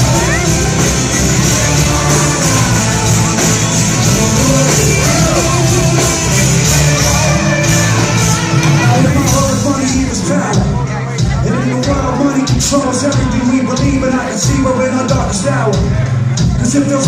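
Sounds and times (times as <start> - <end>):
live concert music: 0.0 - 17.0
sung and shouted vocals: 0.0 - 17.0.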